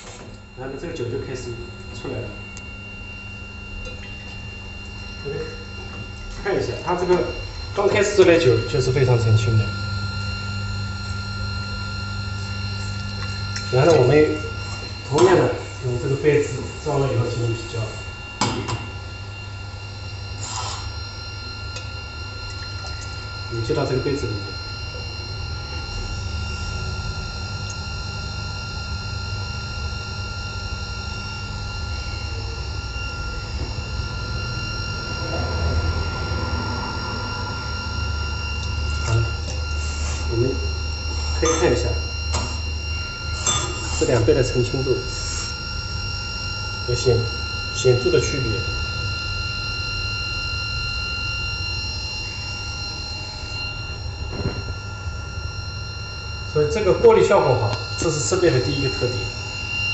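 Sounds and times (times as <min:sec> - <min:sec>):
pump motor humming and whining: 0:00.0 - 0:59.9.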